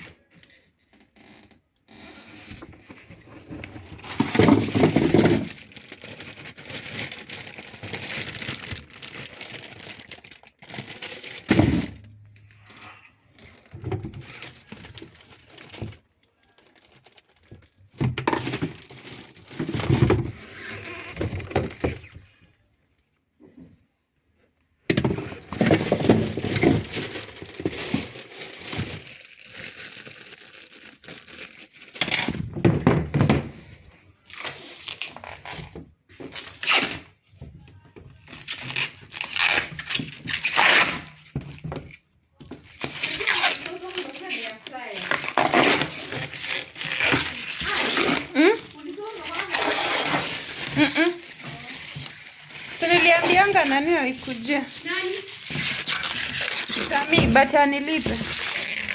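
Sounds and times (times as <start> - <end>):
packaging crackling and crumpling: 0.0 - 22.6, 25.2 - 32.4, 34.2 - 58.9.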